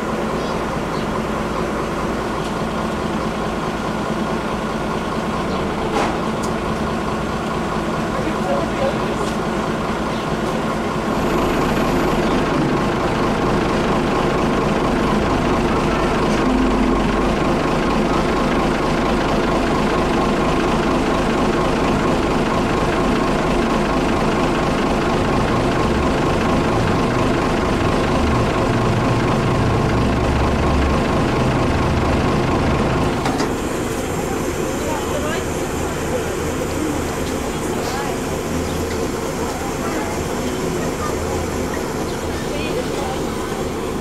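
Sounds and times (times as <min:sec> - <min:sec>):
crane diesel engine and hydraulics: 0:00.0 - 0:44.0.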